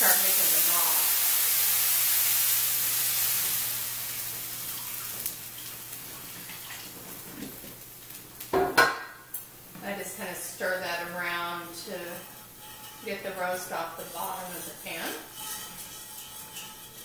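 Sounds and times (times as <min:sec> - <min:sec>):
water sizzling in hot pan: 0:00.0 - 0:17.0.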